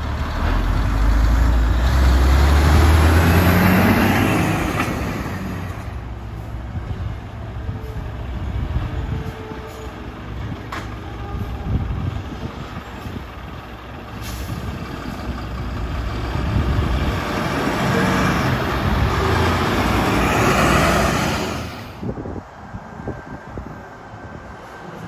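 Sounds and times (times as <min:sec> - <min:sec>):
heavy truck driving past: 0:00.0 - 0:09.2, 0:09.8 - 0:22.3.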